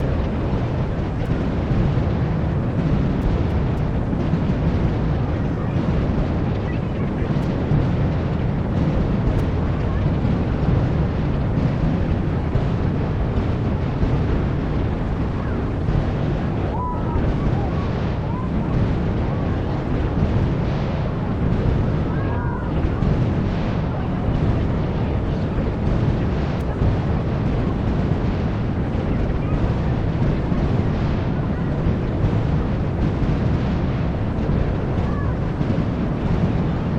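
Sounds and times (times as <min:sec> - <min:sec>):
crowd voices: 0:00.0 - 0:36.9
fireworks booming and crackling: 0:00.0 - 0:36.9.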